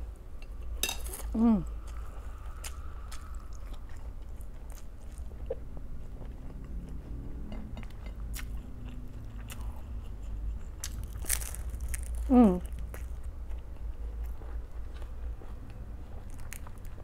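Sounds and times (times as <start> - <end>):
low steady hum: 0.0 - 17.0
person chewing food: 0.4 - 17.0.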